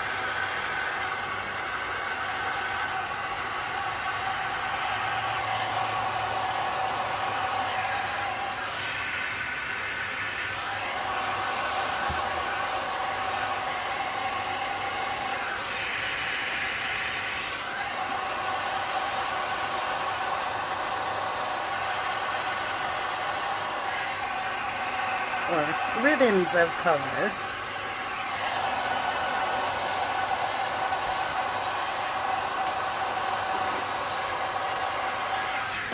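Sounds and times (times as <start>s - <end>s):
heat gun whine: 0.0s - 35.9s.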